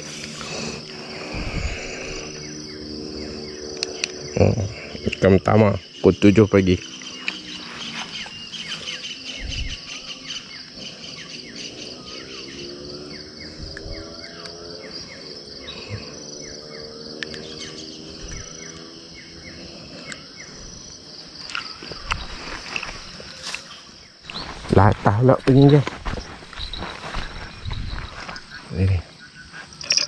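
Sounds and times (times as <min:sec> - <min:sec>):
insects shrilling: 0:00.0 - 0:30.0
rapid chirping calls: 0:00.0 - 0:30.0.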